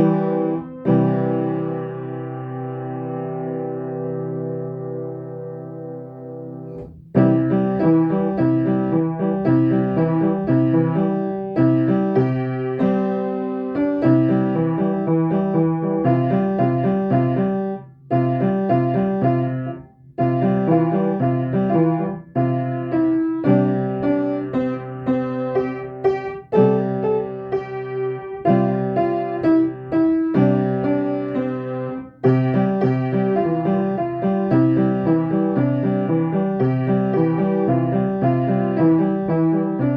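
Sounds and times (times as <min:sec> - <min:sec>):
piano playing chords: 0:00.0 - 0:39.9.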